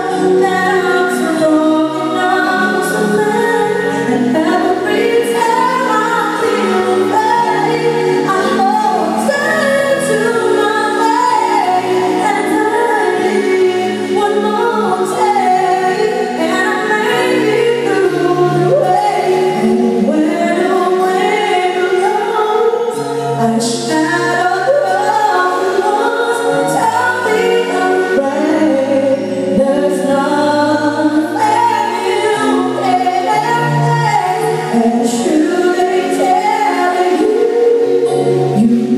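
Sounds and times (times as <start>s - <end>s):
live band playing ballad: 0.0s - 38.9s
woman singing: 0.0s - 38.9s.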